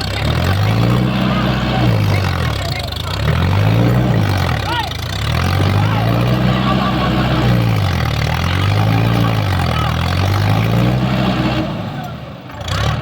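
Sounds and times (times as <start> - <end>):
diesel tractor engine labouring: 0.0 - 13.0.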